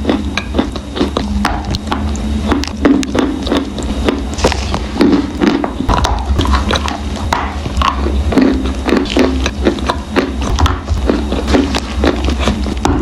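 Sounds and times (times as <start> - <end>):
crunching and chewing clay: 0.0 - 13.0.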